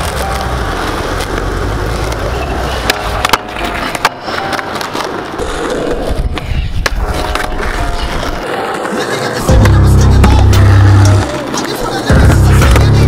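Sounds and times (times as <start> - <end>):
skateboard clacking on ground: 0.0 - 13.0
skateboard wheels rolling: 0.0 - 13.0.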